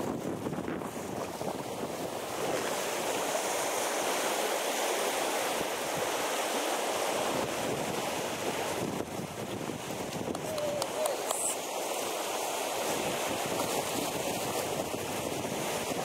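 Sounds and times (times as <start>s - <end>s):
small waves splashing: 0.0s - 16.0s.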